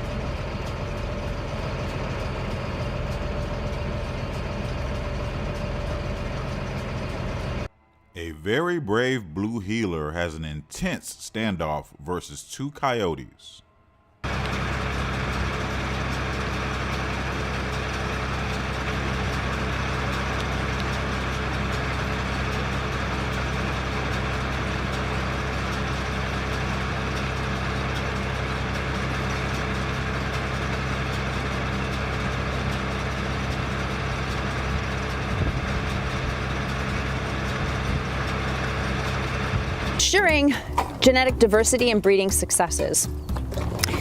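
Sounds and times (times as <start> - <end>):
low mechanical hum: 0.0 - 8.1, 13.7 - 42.1.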